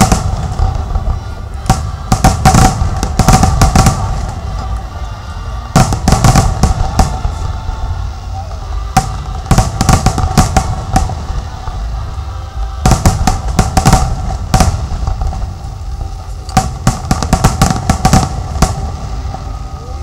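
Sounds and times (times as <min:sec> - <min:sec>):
fireworks bangs: 0:00.0 - 0:20.0
steady low rumble: 0:00.0 - 0:20.0.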